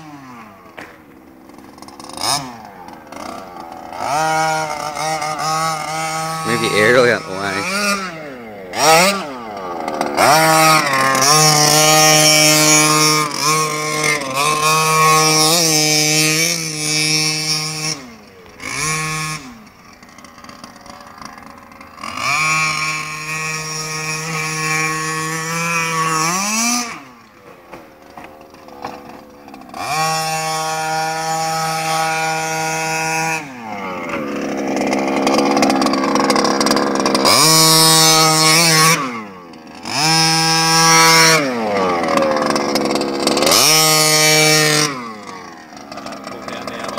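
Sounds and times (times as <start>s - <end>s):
small two-stroke engine revving: 0.0s - 46.9s.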